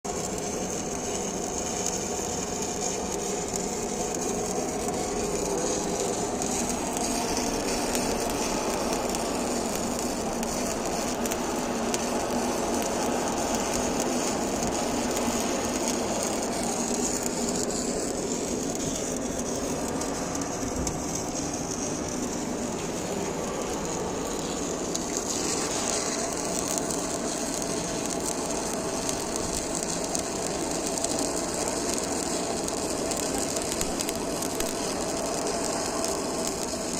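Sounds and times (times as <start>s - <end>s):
electric arc welding crackle: 0.0s - 36.9s
machinery hum: 0.5s - 36.6s.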